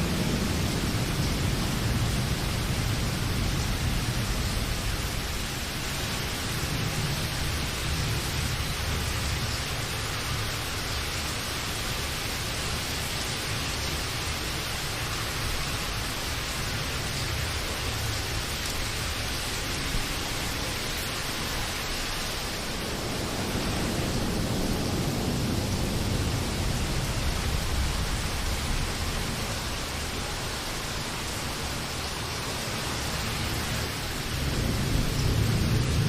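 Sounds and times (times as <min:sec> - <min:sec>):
heavy rain: 0:00.0 - 0:36.0.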